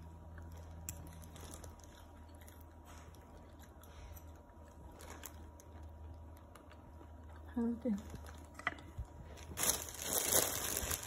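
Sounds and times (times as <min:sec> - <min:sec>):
faint chewing: 0:00.0 - 0:09.4.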